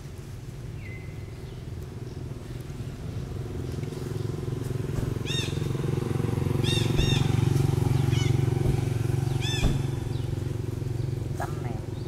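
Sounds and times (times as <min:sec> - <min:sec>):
motor engine droning: 0:02.0 - 0:12.0.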